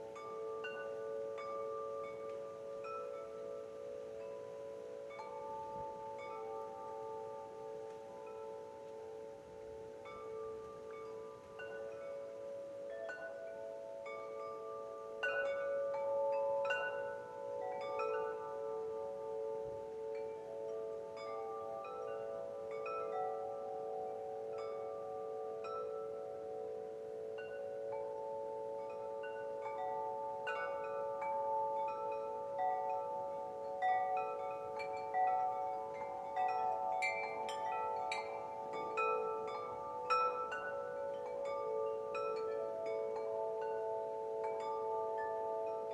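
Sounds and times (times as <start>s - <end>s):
wind chimes ringing: 0.0s - 45.9s.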